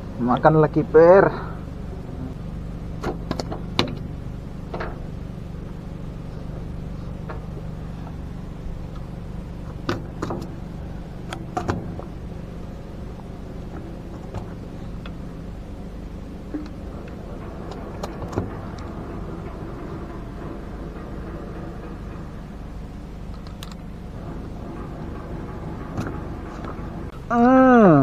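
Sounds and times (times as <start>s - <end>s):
low engine hum: 0.0s - 28.0s
sharp clicks and knocks: 2.9s - 27.2s.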